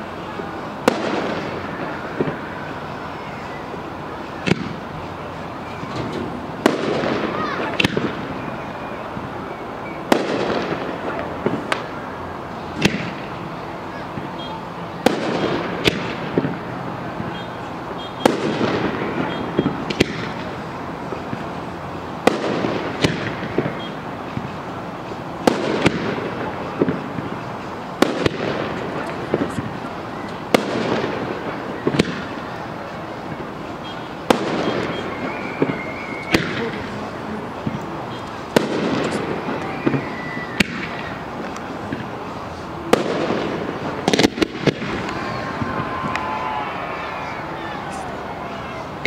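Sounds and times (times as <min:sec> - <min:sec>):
firework bangs: 0:00.0 - 0:48.9.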